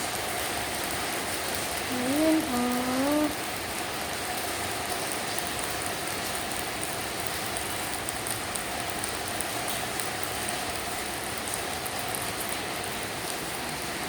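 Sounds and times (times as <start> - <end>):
rain on hard surfaces: 0.0 - 14.0
raindrops ticking: 0.0 - 14.0.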